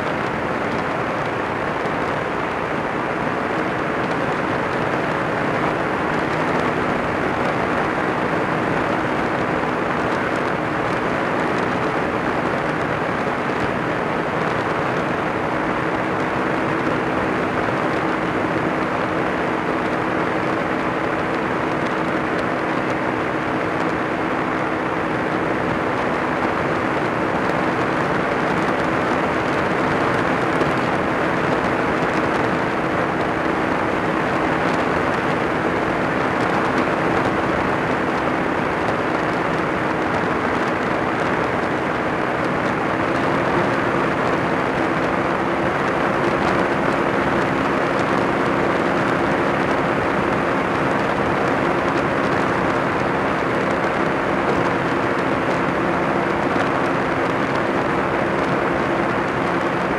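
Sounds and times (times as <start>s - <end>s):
light aircraft engine droning: 0.0s - 59.9s
wind rushing over microphone: 0.0s - 59.9s.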